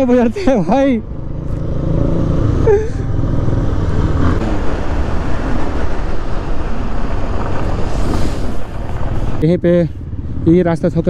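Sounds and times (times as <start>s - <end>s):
motorcycle engine rumble: 0.0s - 11.0s
road noise: 0.0s - 11.0s.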